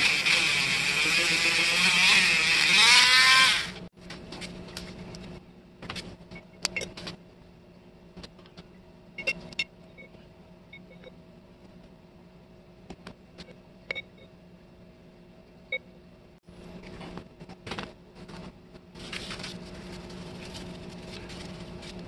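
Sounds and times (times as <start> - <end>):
steady low hum: 3.6 - 22.0.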